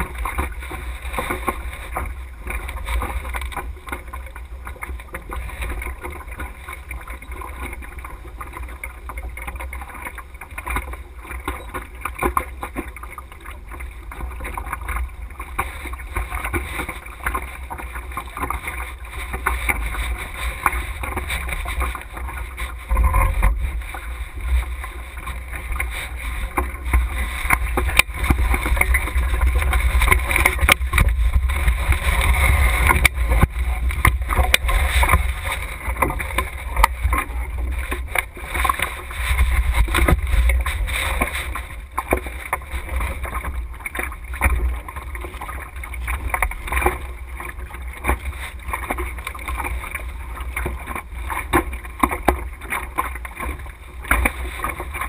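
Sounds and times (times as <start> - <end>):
water noise: 0.0 - 55.0
wind rumbling on microphone: 0.0 - 55.0.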